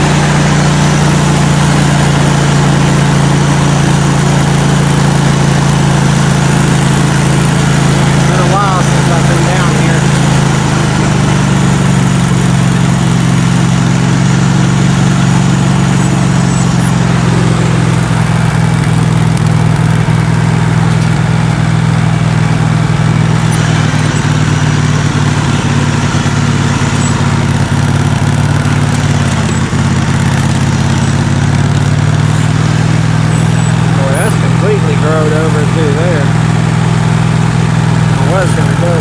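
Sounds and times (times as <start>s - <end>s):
ride-on vehicle engine running: 0.0s - 39.0s.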